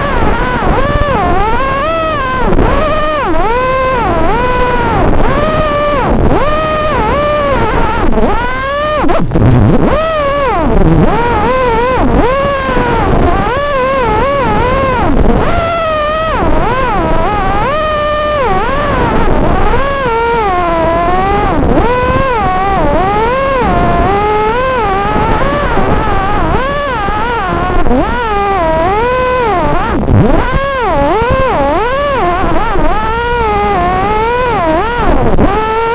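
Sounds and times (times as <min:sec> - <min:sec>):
quadcopter motors whining: 0:00.0 - 0:35.9.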